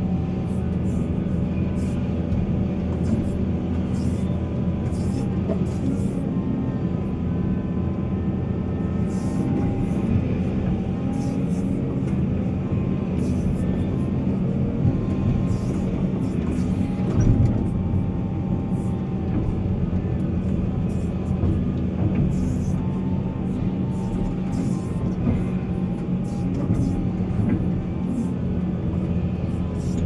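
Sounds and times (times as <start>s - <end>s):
deep diesel engine drone: 0.0s - 30.0s.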